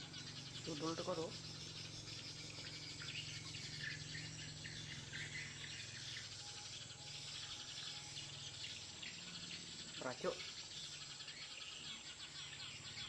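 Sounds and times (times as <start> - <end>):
sparrow chirps: 0.0 - 13.0
steady low hum: 0.0 - 13.0.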